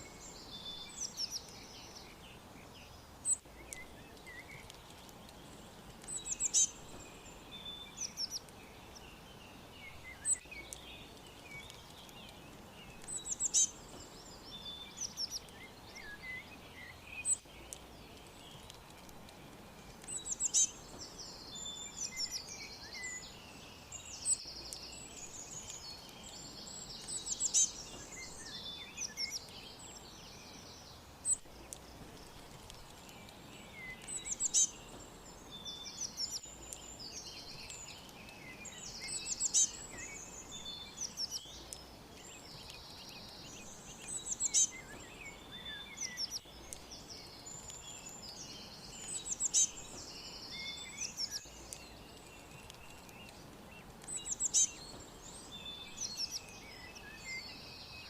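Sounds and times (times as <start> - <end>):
faint background hiss: 0.0 - 58.0
small birds chirping: 0.0 - 58.0.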